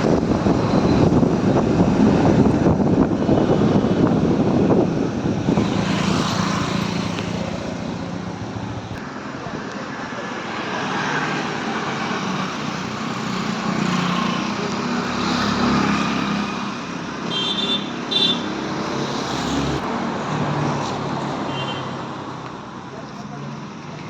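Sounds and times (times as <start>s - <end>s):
traffic noise: 0.0s - 24.0s.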